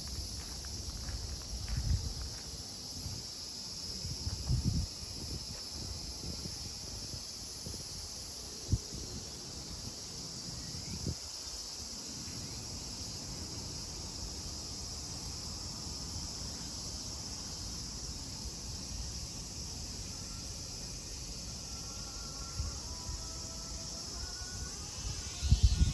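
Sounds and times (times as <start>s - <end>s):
cicadas droning: 0.0s - 25.9s.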